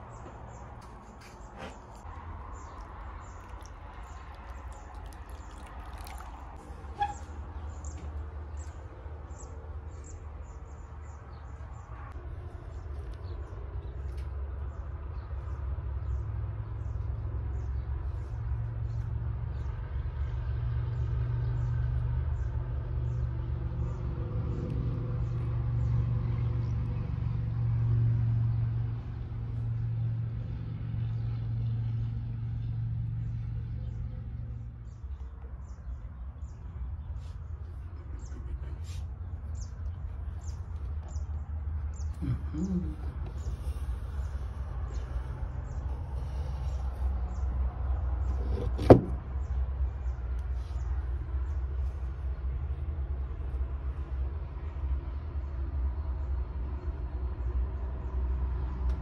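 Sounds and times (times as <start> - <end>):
small birds chirping: 0.0 - 20.3, 28.8 - 58.8.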